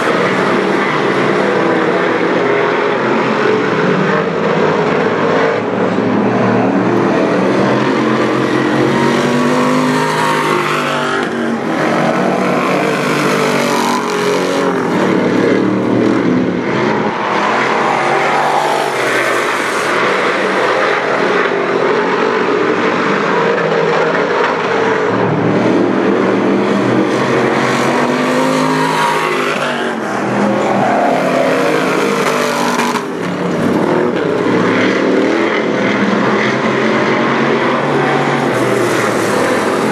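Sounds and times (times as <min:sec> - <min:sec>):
race car engine passing: 0:00.0 - 0:39.9.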